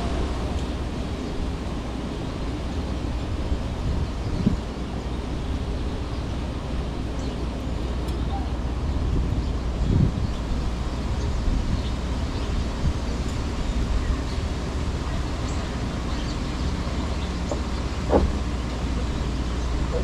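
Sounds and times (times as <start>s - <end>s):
distant traffic: 0.0s - 20.0s
wind rumble: 0.0s - 20.0s.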